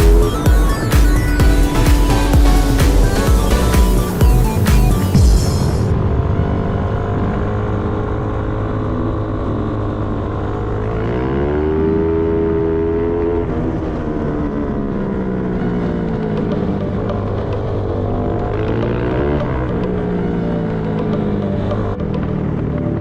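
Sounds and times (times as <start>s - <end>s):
racing kart engine accelerating: 0.0s - 23.0s.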